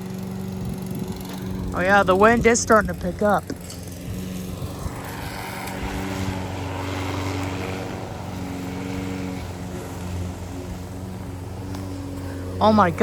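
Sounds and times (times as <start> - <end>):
gusty wind: 0.0 - 13.0
lawn mower engine droning: 0.0 - 13.0.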